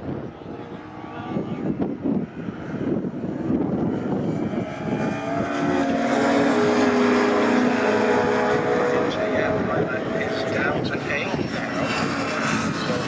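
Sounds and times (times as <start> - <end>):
car engine approaching: 0.0 - 13.0
racing car engines: 0.0 - 13.0.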